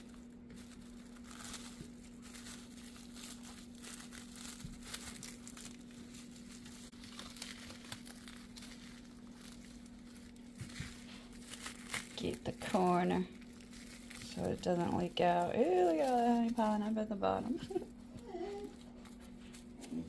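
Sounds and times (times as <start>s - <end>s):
faint steady hum: 0.0s - 20.0s
thin plastic crinkling: 0.0s - 20.0s.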